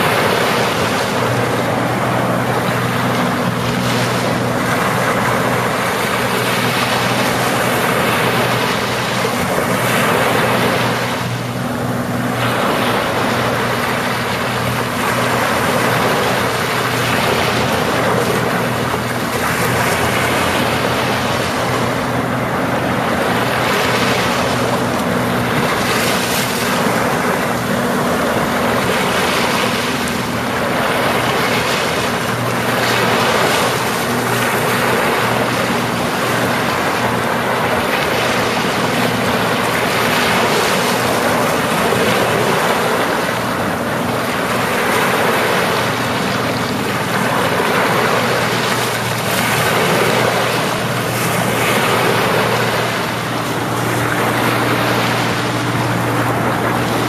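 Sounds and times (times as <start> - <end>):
sea waves washing onto beach: 0.0 - 57.0
steady low hum: 0.0 - 57.0.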